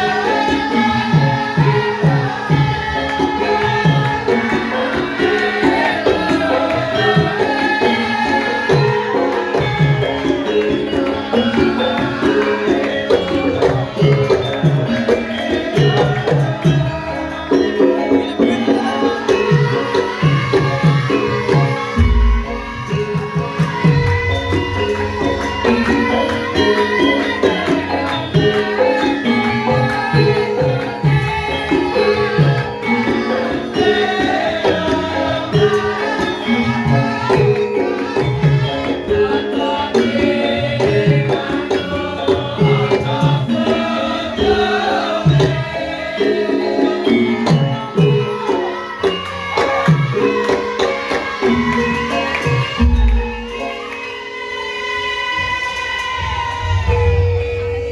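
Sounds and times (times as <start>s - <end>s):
metallophones ringing: 0.0s - 57.9s.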